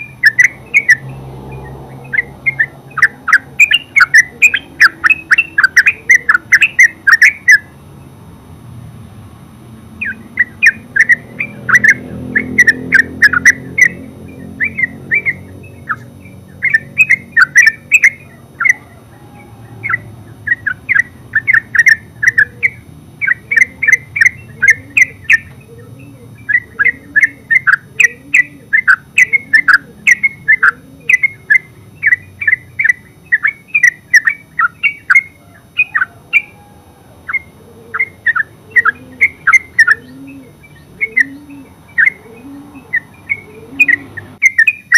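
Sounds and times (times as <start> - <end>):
bird chattering song: 0.0 - 8.2, 9.9 - 44.9.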